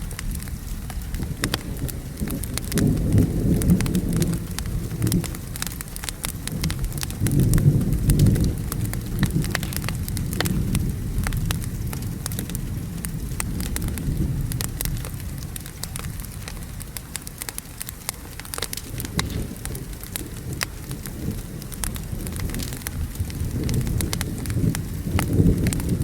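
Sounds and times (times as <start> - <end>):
rain falling: 0.0 - 26.0
thunder rumbling: 0.0 - 26.0
wood fire crackling: 0.0 - 26.0.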